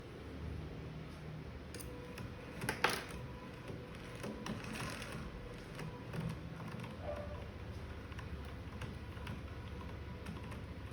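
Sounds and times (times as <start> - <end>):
faint motor hum: 0.0 - 10.9
light mechanical clicks and ticks: 1.7 - 10.9.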